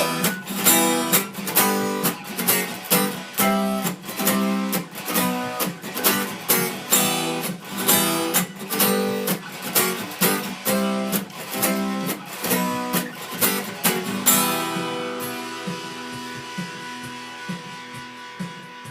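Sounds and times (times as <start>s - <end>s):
acoustic guitar strumming: 0.0s - 18.9s.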